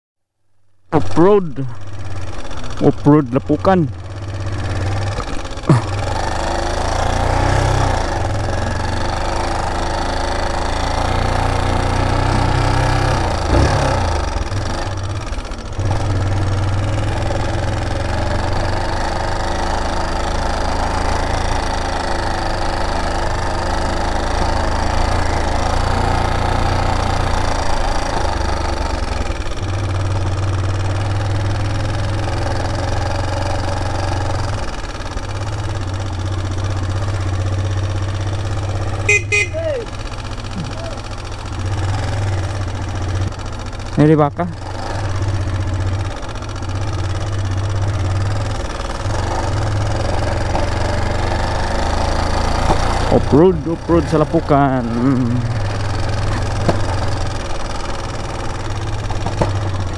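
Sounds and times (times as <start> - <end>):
dirt bike engine running: 0.9 - 59.9.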